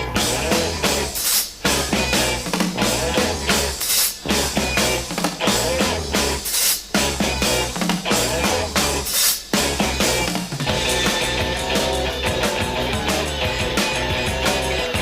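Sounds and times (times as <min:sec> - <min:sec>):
bass and guitar: 0:00.0 - 0:15.0
drum kit beat: 0:00.0 - 0:15.0.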